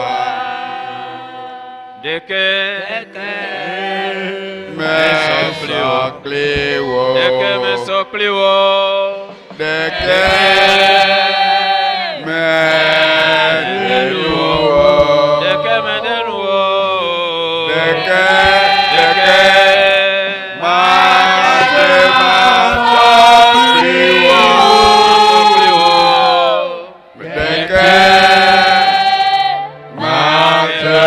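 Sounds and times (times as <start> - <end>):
man singing a hymn into a microphone: 0.0 - 28.9.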